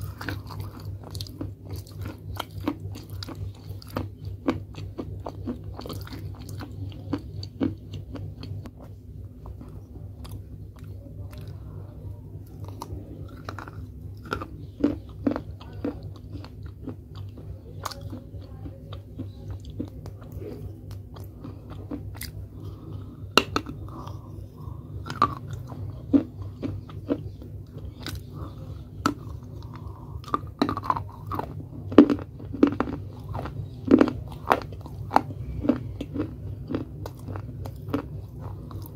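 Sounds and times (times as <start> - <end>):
person crunching and chewing: 0.0 - 11.6, 12.4 - 18.3, 18.9 - 38.9
steady low hum: 0.0 - 38.9.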